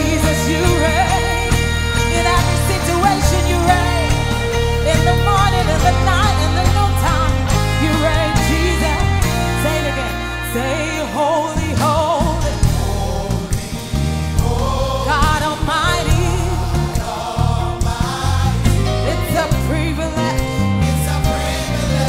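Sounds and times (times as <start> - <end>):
band with bass: 0.0 - 22.0
choir singing gospel: 0.0 - 22.0.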